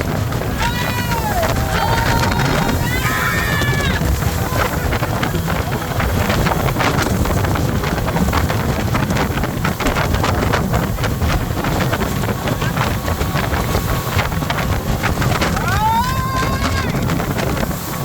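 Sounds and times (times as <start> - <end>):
hull slapping on water: 0.0 - 18.0
speedboat engine: 0.0 - 18.0
water rushing under hull: 0.0 - 18.0
wind buffeting microphone: 0.0 - 18.0.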